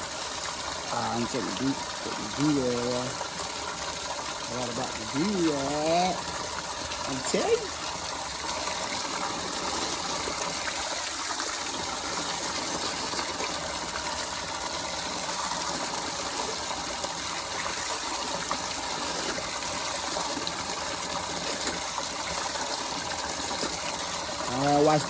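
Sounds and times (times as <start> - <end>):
water running in a gush: 0.0 - 25.0.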